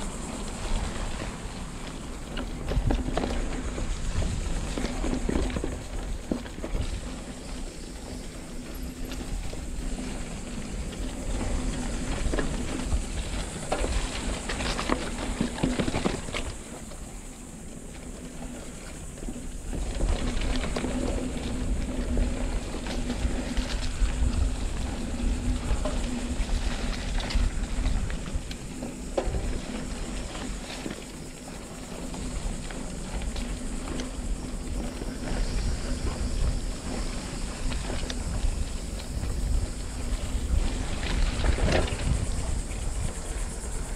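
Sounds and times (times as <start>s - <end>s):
bike rattling over bumps: 0.0s - 43.9s
bike tyres rumbling on dirt: 0.0s - 43.9s
wind on microphone: 0.0s - 43.9s.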